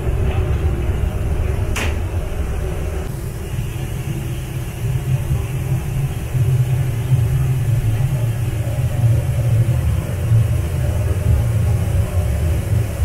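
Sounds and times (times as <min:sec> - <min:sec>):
boiler burners rumbling: 0:00.0 - 0:13.0.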